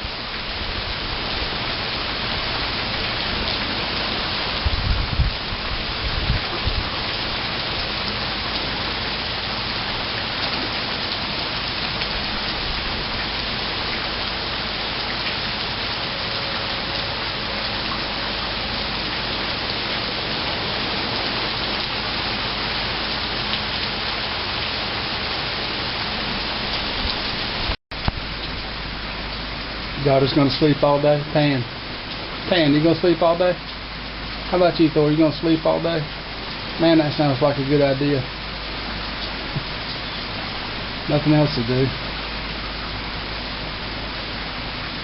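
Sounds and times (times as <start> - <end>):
steady rain falling: 0.0 - 45.0.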